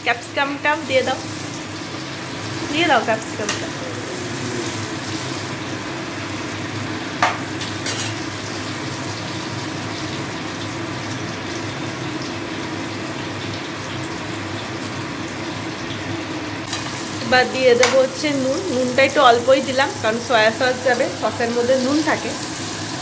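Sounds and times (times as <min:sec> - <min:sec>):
vegetables sizzling in a frying pan: 0:00.0 - 0:23.0.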